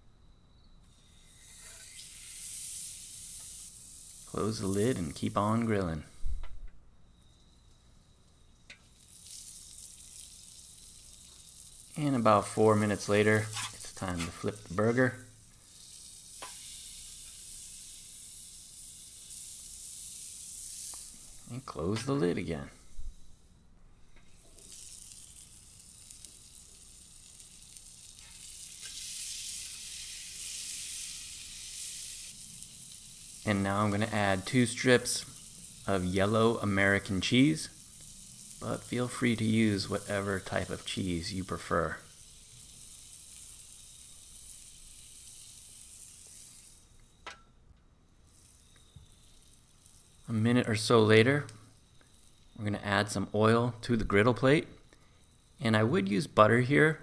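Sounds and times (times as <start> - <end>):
burger patty sizzling on griddle: 0.0 - 57.0.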